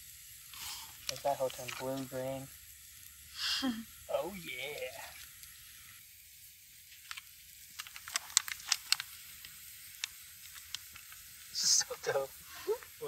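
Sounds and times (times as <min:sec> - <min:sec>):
campfire crackling: 0:00.0 - 0:13.0
faint steady hiss: 0:00.0 - 0:13.0
sharp fire pops: 0:00.0 - 0:13.0.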